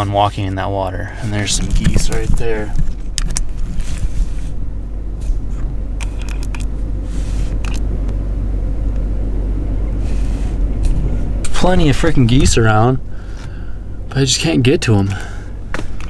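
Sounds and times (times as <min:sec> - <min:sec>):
vehicle road rumble: 0:00.0 - 0:16.0.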